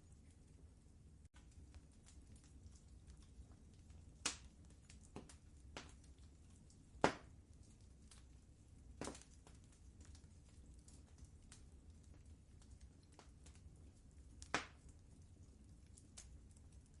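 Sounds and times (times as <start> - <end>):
faint low rumble: 0.0 - 17.0
wood fire crackling: 0.0 - 17.0.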